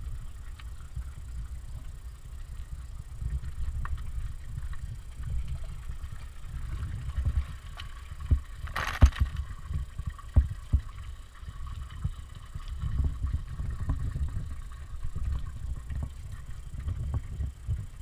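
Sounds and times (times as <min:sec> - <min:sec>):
low microphone rumble: 0:00.0 - 0:18.0.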